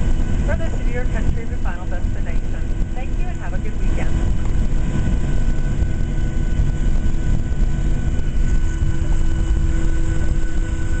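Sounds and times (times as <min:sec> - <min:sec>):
faint steady tones: 0:00.0 - 0:11.0
low cabin rumble: 0:00.0 - 0:11.0.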